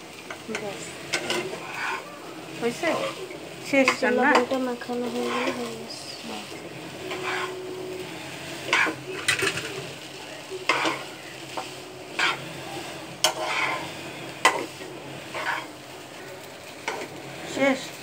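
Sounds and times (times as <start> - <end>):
frying sizzle: 0.0 - 18.0
spatula scraping wok: 0.0 - 18.0.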